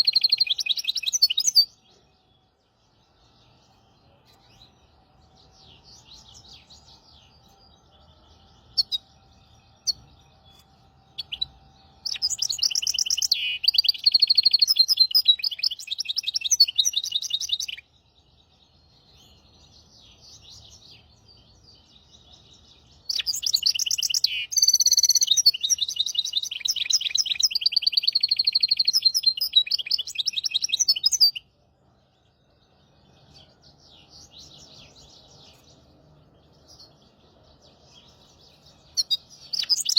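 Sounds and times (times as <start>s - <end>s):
finch singing trilled song: 0.0s - 39.9s
soft bird chirps: 0.0s - 39.9s.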